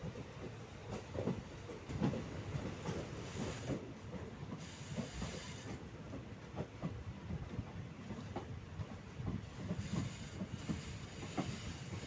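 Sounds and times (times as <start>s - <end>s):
train wheels rumbling and knocking: 0.0s - 12.0s.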